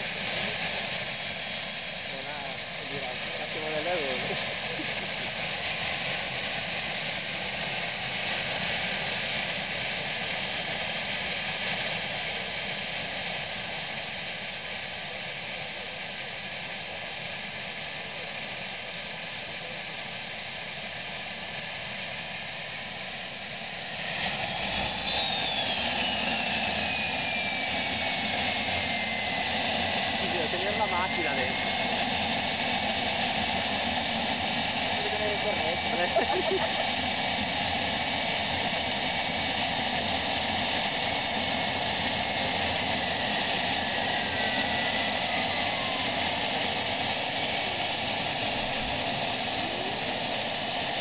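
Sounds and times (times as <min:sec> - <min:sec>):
helicopter engine whine: 0:00.0 - 0:51.0.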